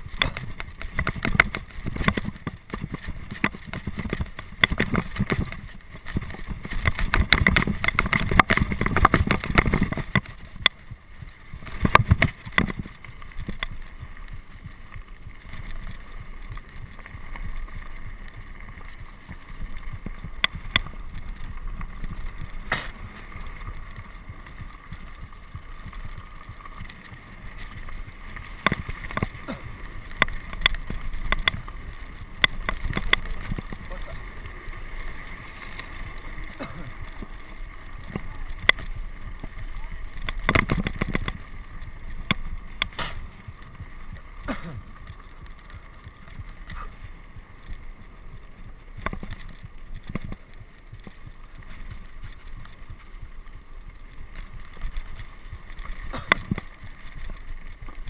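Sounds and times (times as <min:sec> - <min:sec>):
mountain bike over rough ground: 0:00.0 - 0:58.0.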